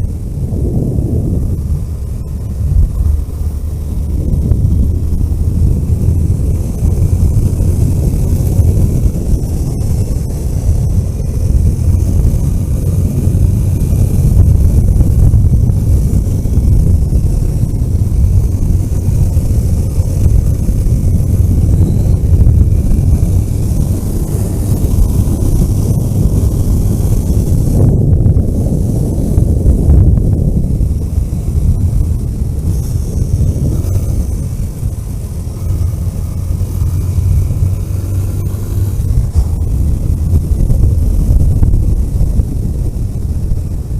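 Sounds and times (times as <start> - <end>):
engine and road noise rumble: 0.0 - 43.9
wind noise on microphone: 0.0 - 43.9.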